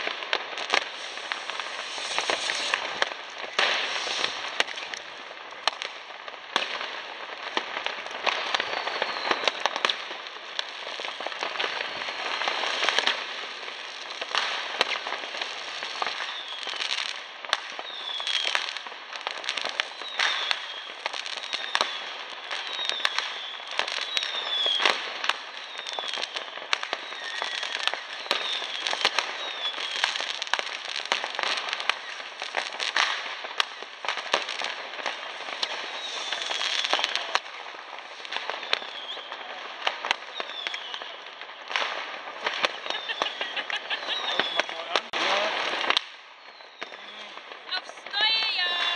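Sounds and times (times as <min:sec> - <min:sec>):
falling firework whistle: 0:00.0 - 0:05.8, 0:08.3 - 0:10.0, 0:10.6 - 0:18.8, 0:19.6 - 0:47.5
firecrackers crackling: 0:00.0 - 0:48.9
fireworks bangs: 0:00.0 - 0:48.9.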